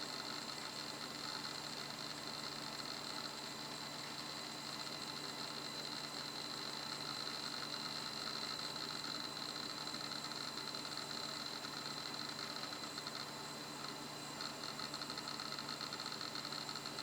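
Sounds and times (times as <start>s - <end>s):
hard drive whirring with whine: 0.0s - 17.0s.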